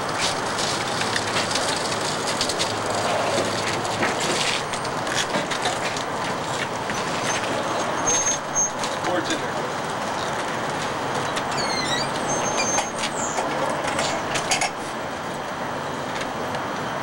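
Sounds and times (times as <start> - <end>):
caster wheels rolling over concrete: 0.0 - 14.9.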